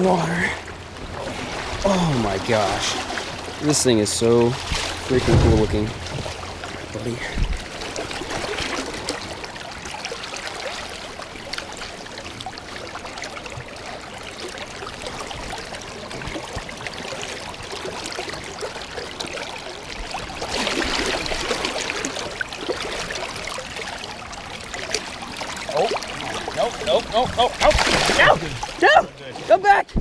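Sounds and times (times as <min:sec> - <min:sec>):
stream running over rocks: 0:00.0 - 0:30.0.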